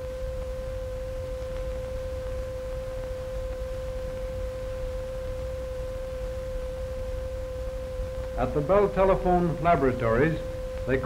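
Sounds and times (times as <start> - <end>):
film soundtrack rumble and hiss: 0.0 - 11.0
steady test tone: 0.0 - 11.0.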